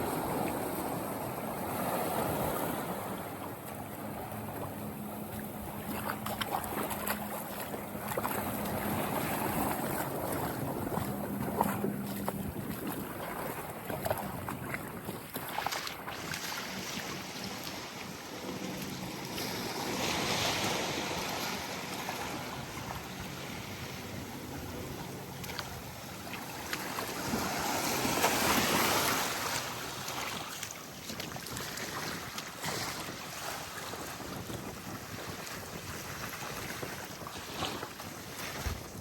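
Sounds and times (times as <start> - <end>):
small waves washing onto beach: 0.0 - 39.0
wind on microphone: 0.0 - 39.0.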